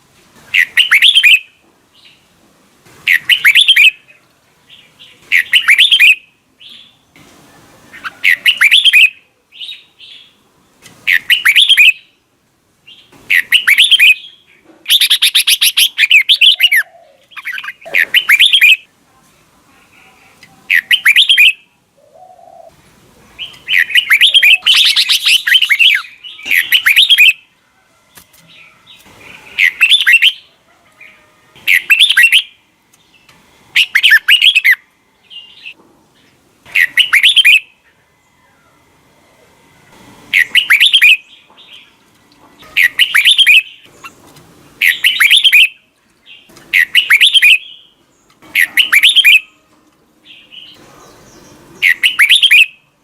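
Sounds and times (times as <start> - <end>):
bird singing warbled phrases: 0.5 - 2.3, 3.0 - 7.1, 7.9 - 10.4, 11.0 - 12.2, 12.8 - 18.9, 19.9 - 22.8, 23.4 - 27.5, 28.6 - 37.8, 40.3 - 42.0, 42.6 - 49.6, 50.2 - 52.9.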